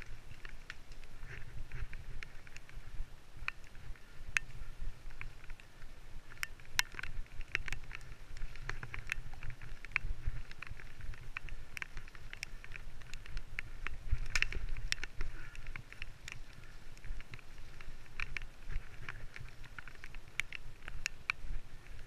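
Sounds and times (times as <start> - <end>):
bike rattling and clicking: 0.0 - 22.0
bike rumbling on rough trail: 0.0 - 22.0.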